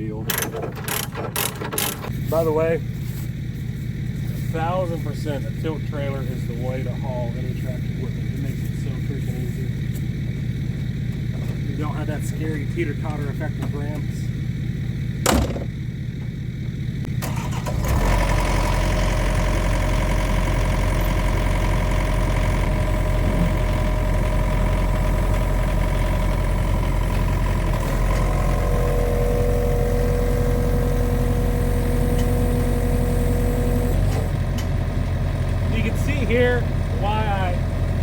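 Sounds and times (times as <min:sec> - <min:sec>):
steady whine: 0:00.0 - 0:17.6, 0:20.8 - 0:34.0
excavator diesel engine running: 0:00.0 - 0:38.0.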